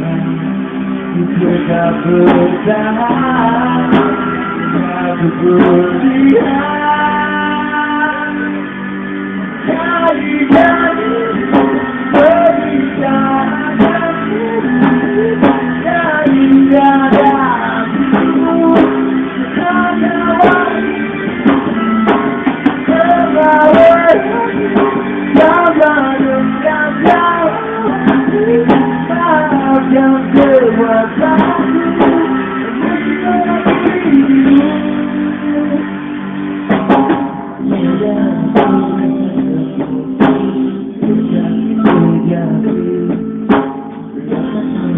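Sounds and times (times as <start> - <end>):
bending melody line: 0.0 - 44.9
live band playing: 0.0 - 44.9
sharp drum beats: 1.3 - 7.8, 9.5 - 44.9.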